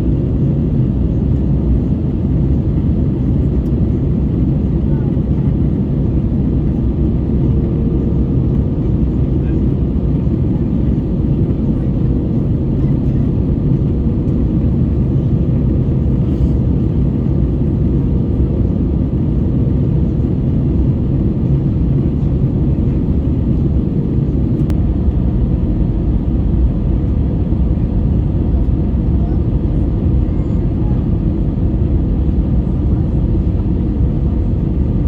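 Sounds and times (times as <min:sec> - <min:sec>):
airplane cabin drone: 0:00.0 - 0:35.0.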